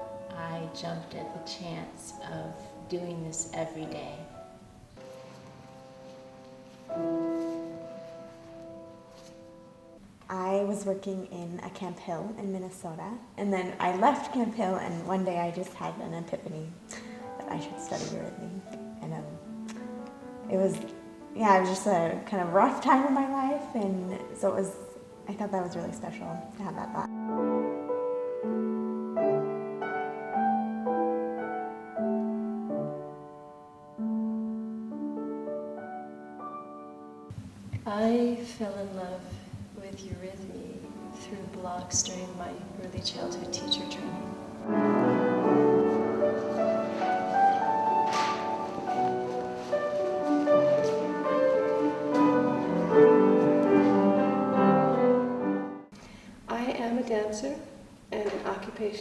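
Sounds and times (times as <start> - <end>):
slow gentle piano piece: 0.0 - 59.0.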